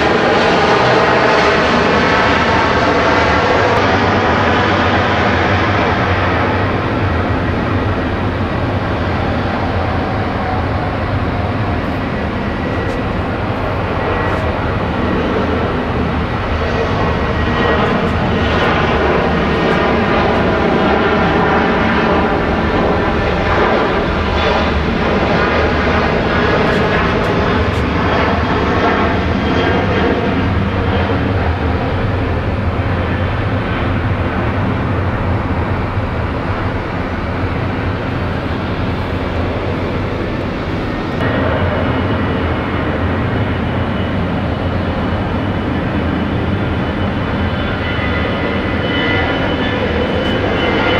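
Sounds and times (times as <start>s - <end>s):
jet engines at takeoff thrust: 0.0s - 50.9s.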